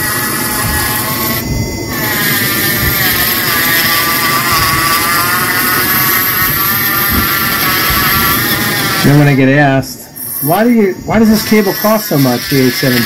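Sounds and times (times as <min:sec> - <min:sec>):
rotary tool cutting metal: 0:00.0 - 0:13.0.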